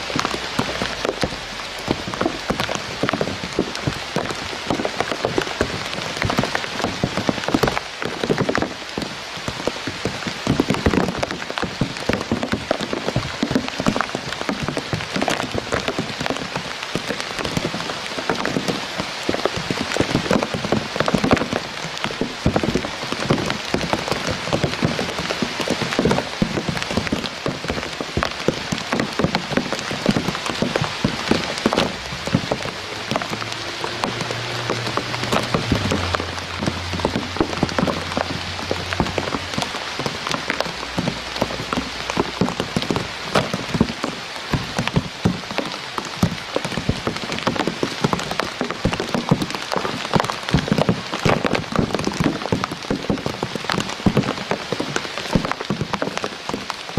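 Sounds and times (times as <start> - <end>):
rain pattering on leaves: 0.0 - 56.9.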